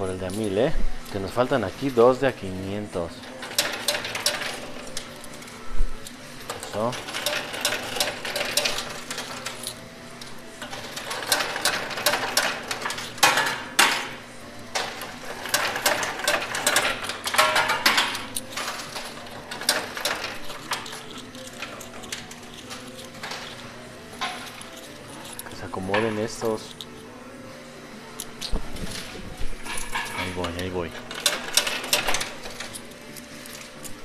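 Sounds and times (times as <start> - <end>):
coins clinking and rattling: 3.2 - 27.2, 28.1 - 34.0.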